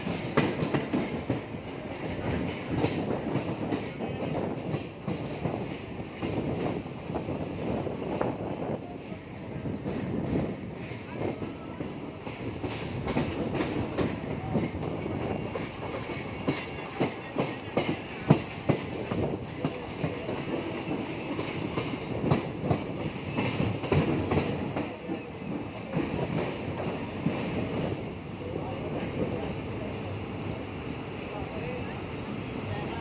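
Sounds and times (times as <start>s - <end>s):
train rumble: 0.0s - 33.0s.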